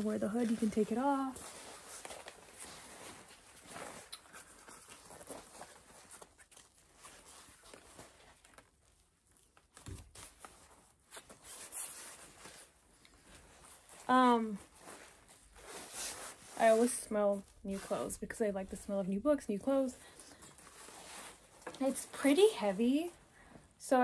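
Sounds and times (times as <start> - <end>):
faint jacket rustling: 0.0 - 9.0, 10.4 - 23.4.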